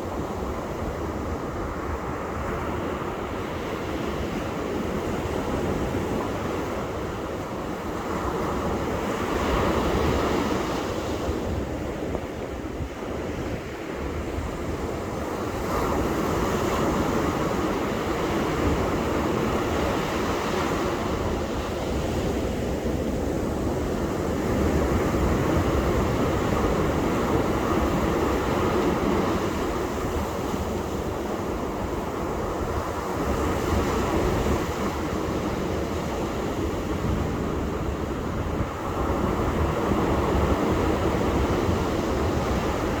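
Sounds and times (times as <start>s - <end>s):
waves breaking on beach: 0.0s - 43.0s.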